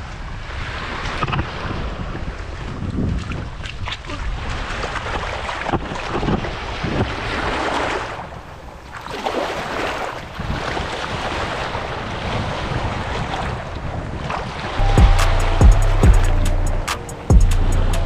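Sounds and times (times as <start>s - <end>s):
small waves washing on beach: 0.0s - 14.8s
wind rumbling on microphone: 0.0s - 18.0s.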